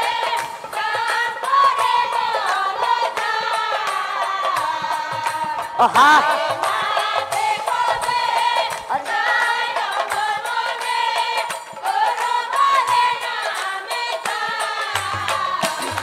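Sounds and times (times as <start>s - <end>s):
woman singing devotional melody: 0.0s - 16.0s.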